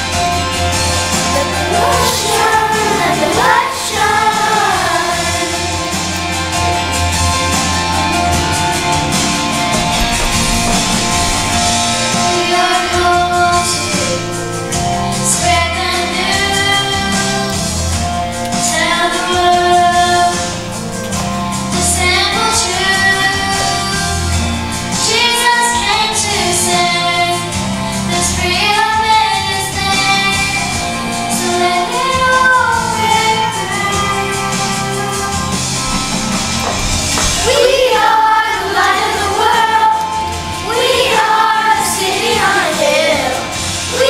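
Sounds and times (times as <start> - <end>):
children singing: 0.0 - 44.0
instrumental accompaniment: 0.0 - 44.0.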